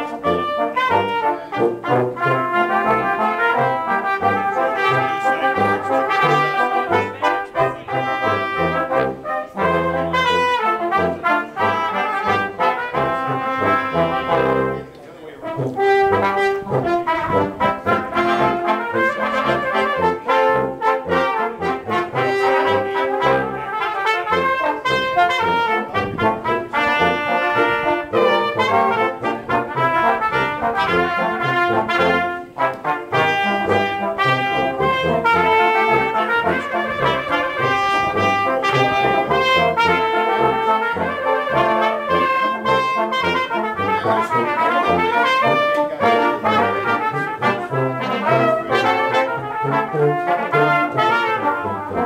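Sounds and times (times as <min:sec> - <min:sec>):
brass ensemble playing: 0:00.0 - 0:52.0.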